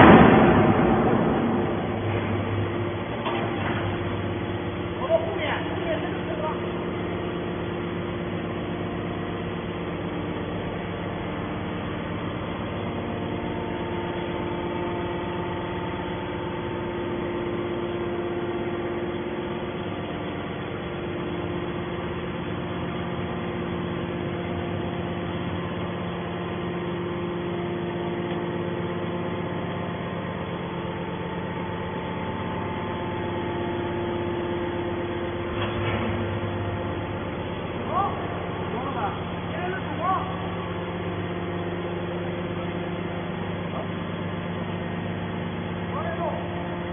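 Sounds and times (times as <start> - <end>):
hydraulic machine hum: 0.0 - 46.9.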